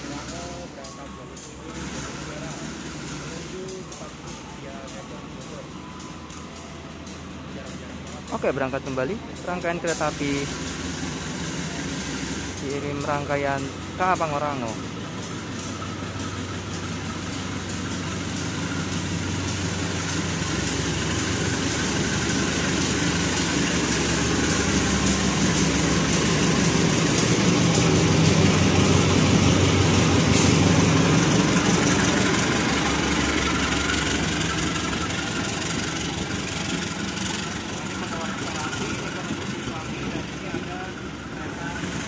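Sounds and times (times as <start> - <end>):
coaches rolling on rails: 0.0 - 42.0
diesel locomotive engine under load: 0.0 - 42.0.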